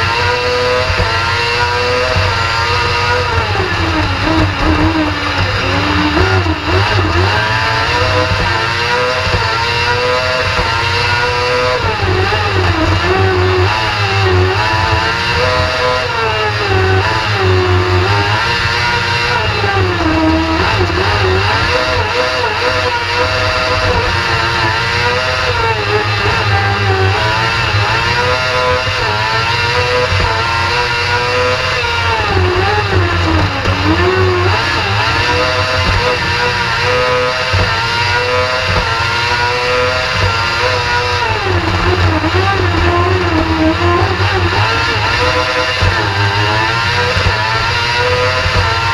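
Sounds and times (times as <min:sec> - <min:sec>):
racing engine revving: 0:00.0 - 0:48.9.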